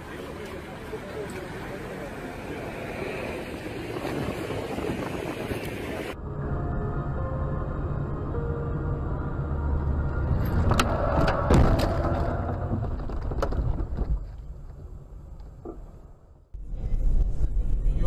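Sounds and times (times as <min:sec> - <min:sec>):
road and engine rumble: 0:00.0 - 0:18.0.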